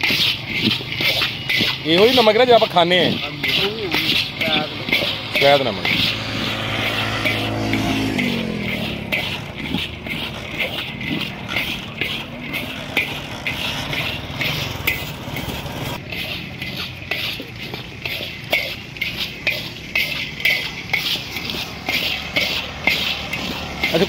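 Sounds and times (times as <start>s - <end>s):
metal ladle scraping wok: 0.0s - 24.0s.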